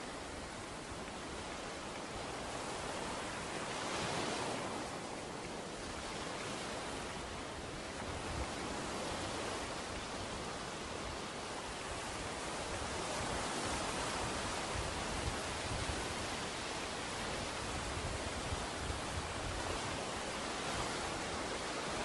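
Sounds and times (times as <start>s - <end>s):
ocean waves on beach: 0.0s - 22.0s.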